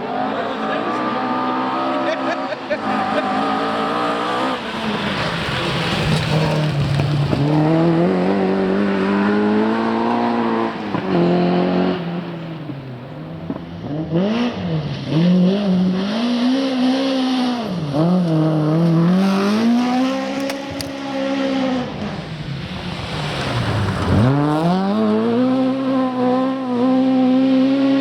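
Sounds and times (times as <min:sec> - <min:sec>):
rally car engine accelerating: 0:00.0 - 0:28.0.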